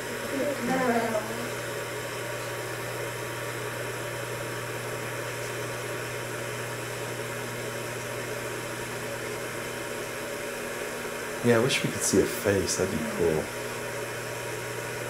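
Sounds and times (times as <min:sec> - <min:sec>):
low equipment hum with hiss: 0:00.0 - 0:15.0.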